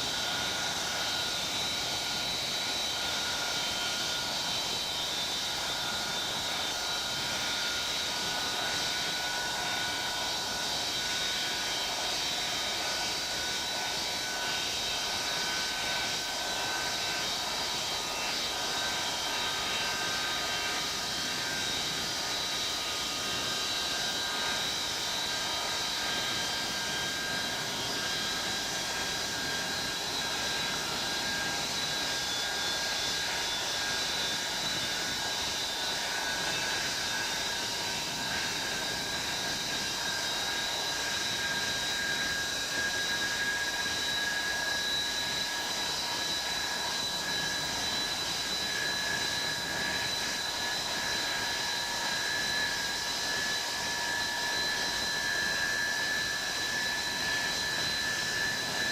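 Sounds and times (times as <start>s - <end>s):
high compressor whine: 0.0s - 58.9s
jet engines running: 0.0s - 58.9s.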